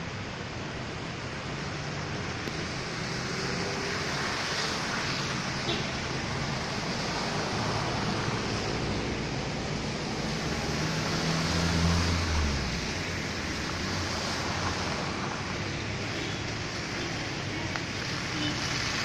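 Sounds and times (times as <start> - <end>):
car engine: 0.0 - 19.0
tyres splashing through water: 0.5 - 19.0.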